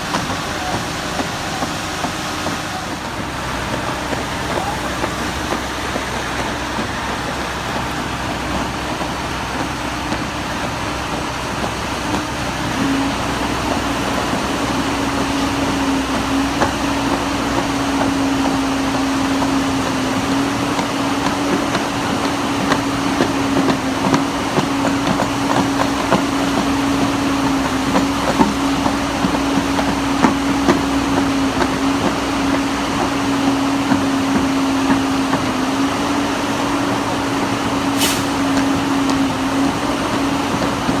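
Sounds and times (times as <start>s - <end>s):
concrete pump truck running: 0.0s - 41.0s.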